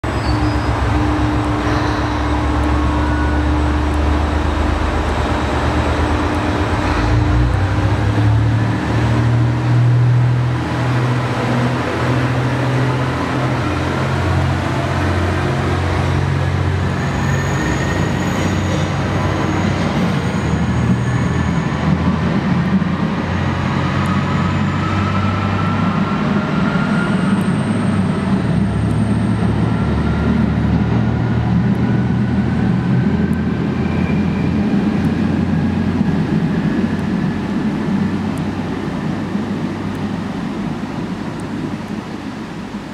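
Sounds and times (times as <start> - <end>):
diesel railcar engine accelerating: 0.0 - 42.9.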